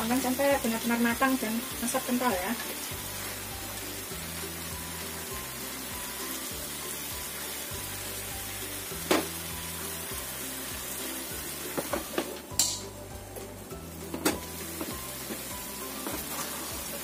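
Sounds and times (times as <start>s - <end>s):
background music with bass: 0.0s - 17.0s
chicken sizzling in pan: 0.0s - 17.0s.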